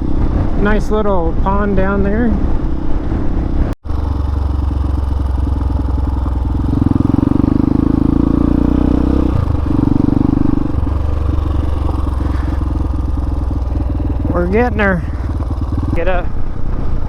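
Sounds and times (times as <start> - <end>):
wind noise: 0.0 - 4.1, 4.7 - 17.0
motorcycle engine running: 1.8 - 17.0.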